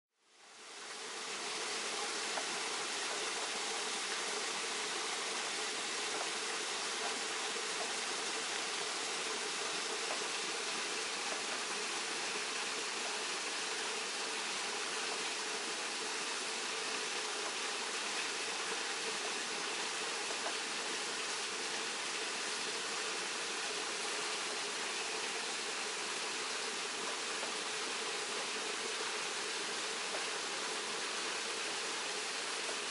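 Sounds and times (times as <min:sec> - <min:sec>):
waterfall pouring over rocks: 0:00.3 - 0:32.9.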